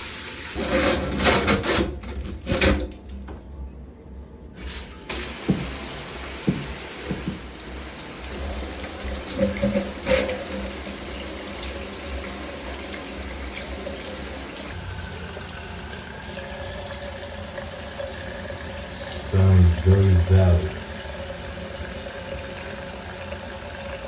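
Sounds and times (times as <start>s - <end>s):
shower water running: 0.0s - 0.6s, 4.6s - 24.0s.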